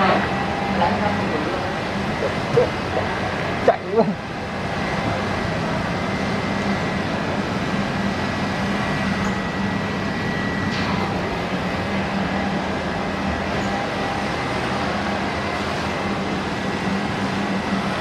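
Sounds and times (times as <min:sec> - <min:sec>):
faint high whine: 0:00.0 - 0:18.0.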